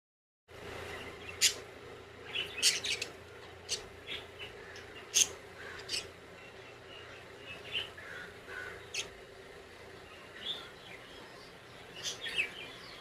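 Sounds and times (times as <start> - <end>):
steady low hum: 0.5 - 13.0
birds chirping: 0.6 - 13.0.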